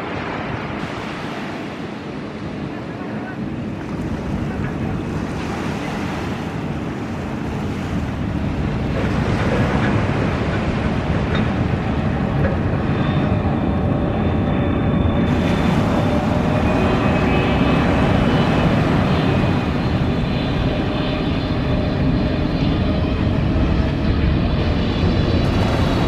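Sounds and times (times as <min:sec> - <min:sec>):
jet engine whine: 0:00.0 - 0:26.0
jet engines rumbling: 0:00.0 - 0:26.0.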